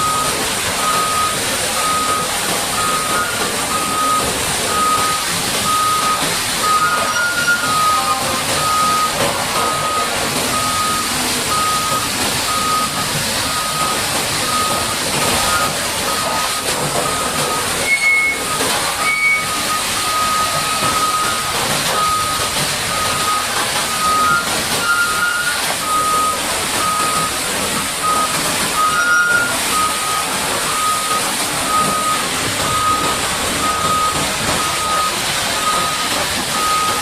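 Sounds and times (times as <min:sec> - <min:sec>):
reversing alarm beeping: 0:00.0 - 0:37.0.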